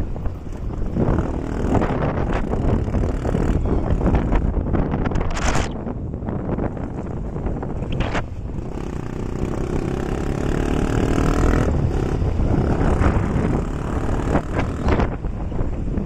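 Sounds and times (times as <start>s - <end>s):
motorcycle engine running: 0.0s - 5.0s, 6.3s - 16.0s
wind rumbling on microphone: 0.0s - 16.0s.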